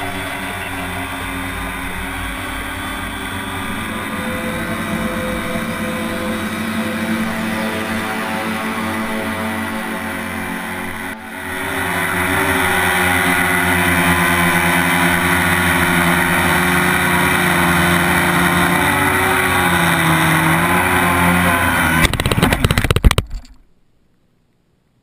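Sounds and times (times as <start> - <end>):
propellers striking grass: 0.0 - 23.5
drone motors and propellers: 0.0 - 23.6.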